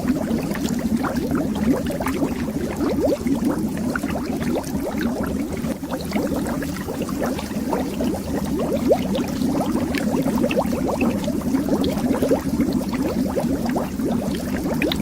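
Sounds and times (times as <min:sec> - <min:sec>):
bubbles rising under water: 0:00.0 - 0:15.0.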